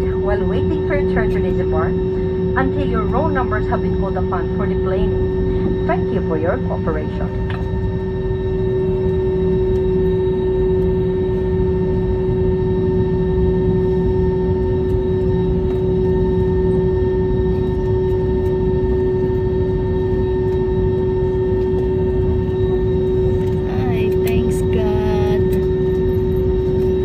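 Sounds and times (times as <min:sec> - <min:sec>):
airliner cabin rumble: 0:00.0 - 0:27.0
constant whine: 0:00.0 - 0:27.0.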